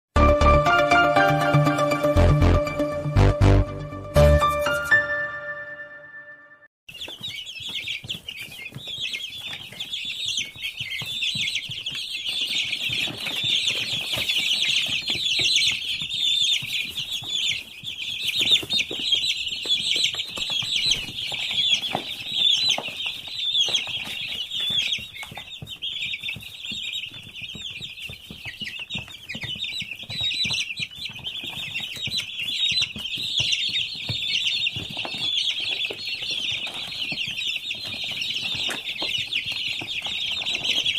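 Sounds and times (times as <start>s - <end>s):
chicks peeping: 0.3s - 40.9s.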